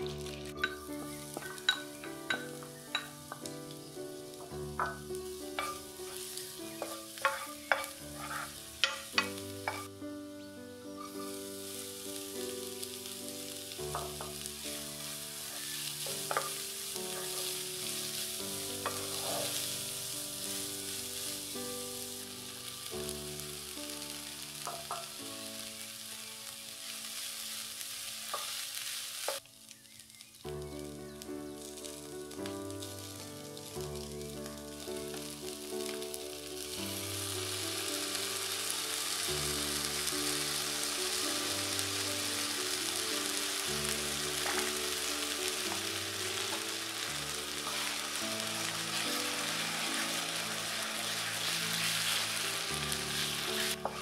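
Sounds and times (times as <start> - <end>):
garlic and onion sizzling in oil: 0.0 - 54.0
soft instrumental music: 0.0 - 54.0.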